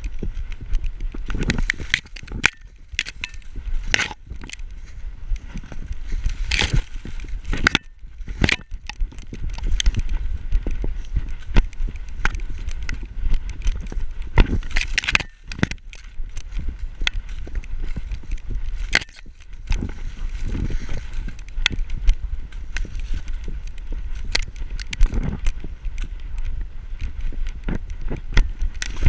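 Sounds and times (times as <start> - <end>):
dry stalks brushing and crackling: 0.0 - 29.0
steady low rumble: 0.0 - 29.0.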